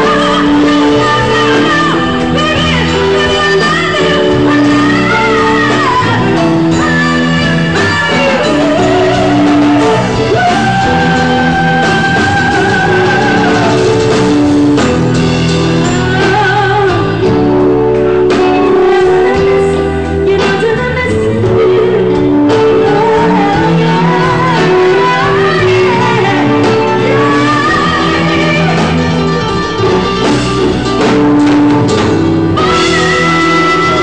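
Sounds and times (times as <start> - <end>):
woman singing into microphone: 0.0 - 14.9, 15.7 - 30.2, 32.6 - 34.0
drums: 0.0 - 34.0
electric guitars: 0.0 - 34.0.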